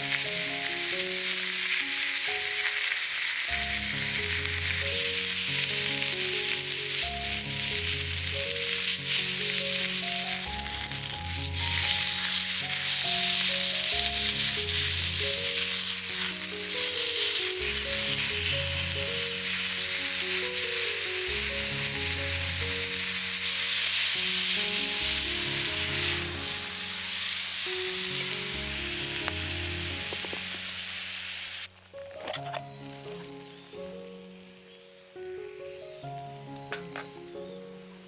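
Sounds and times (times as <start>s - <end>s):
background music: 0.0s - 38.0s
food sizzling in a pan: 0.0s - 38.0s.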